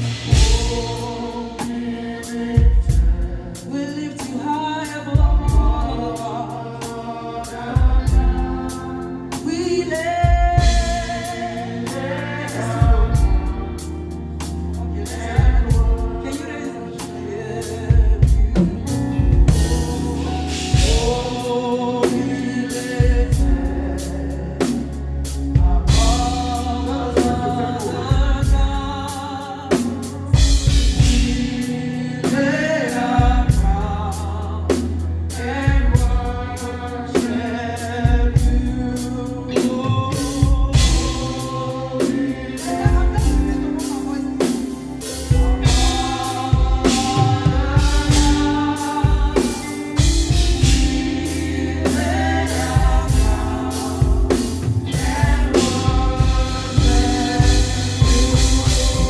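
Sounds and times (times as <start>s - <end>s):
band with drum kit: 0.0s - 59.0s
voices singing worship song: 0.0s - 59.0s.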